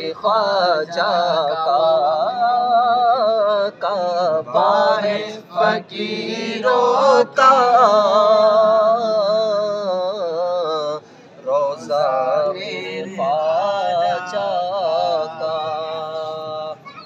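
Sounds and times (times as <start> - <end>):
men singing devotional song: 0.0 - 16.8.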